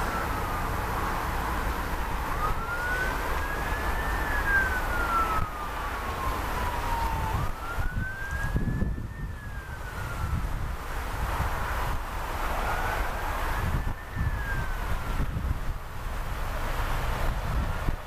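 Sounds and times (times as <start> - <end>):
distant siren wailing: 0.0 - 18.0
wind on microphone: 1.8 - 18.0.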